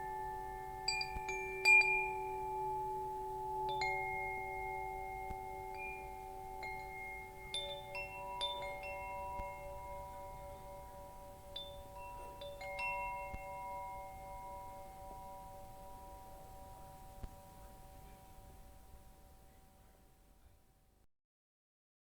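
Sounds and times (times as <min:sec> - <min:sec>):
wind chimes ringing: 0:00.0 - 0:20.1.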